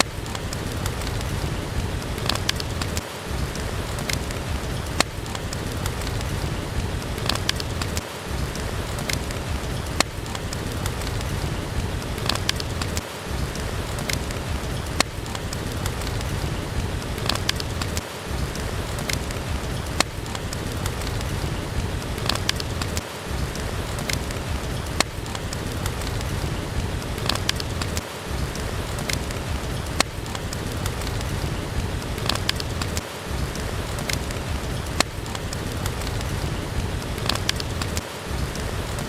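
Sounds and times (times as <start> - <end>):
steady rain: 0.0 - 39.0
wood fire crackles: 0.0 - 39.0.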